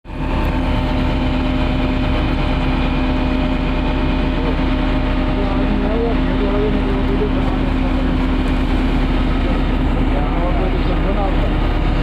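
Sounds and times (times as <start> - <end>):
heavy diesel engine rumbling: 0.1 - 12.0.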